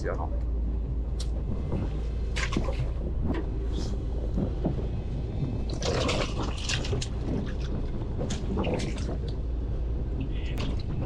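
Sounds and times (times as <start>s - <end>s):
boat engine rumbling: 0.0s - 11.0s
water splashing against hull: 0.8s - 11.0s.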